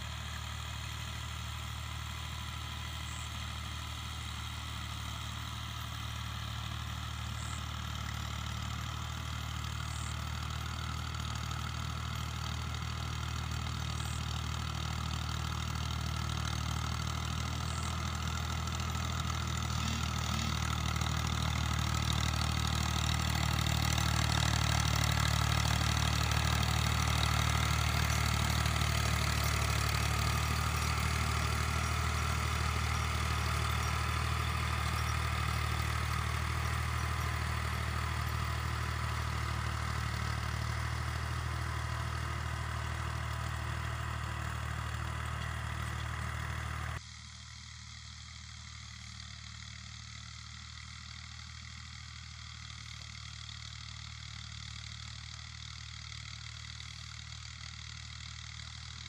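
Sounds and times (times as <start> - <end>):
rotavator tilling dry soil: 0.0 - 47.4
tractor diesel engine under load: 0.0 - 59.0.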